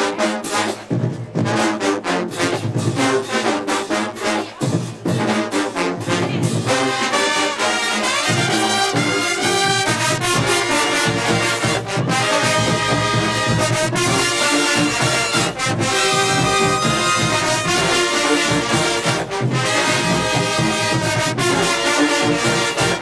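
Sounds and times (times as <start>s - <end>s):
marching band brass tune: 0.0s - 23.0s
driving drum beat: 0.5s - 23.0s.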